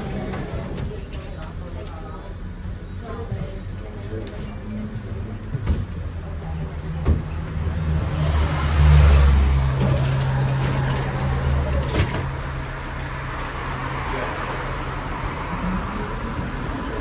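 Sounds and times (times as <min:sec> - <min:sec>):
streetcar electric motor hum: 0:00.0 - 0:17.0.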